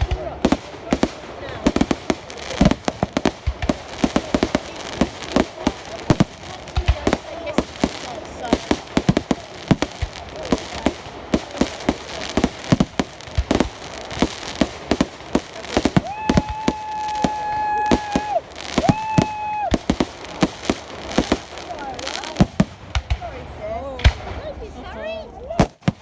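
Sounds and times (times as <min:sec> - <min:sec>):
fireworks exploding: 0:00.0 - 0:26.0.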